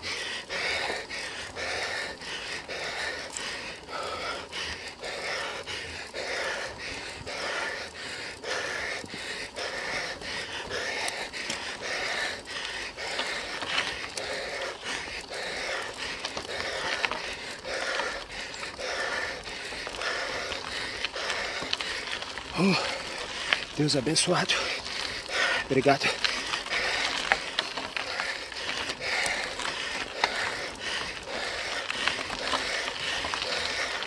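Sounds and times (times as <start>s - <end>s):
man panting hard: 0.0s - 34.0s.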